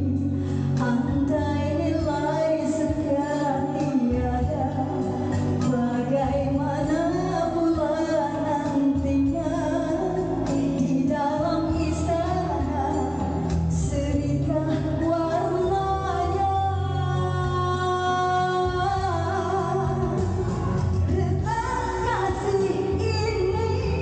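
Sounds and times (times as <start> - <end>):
musical accompaniment: 0.0 - 24.0
woman singing into a microphone: 0.0 - 24.0.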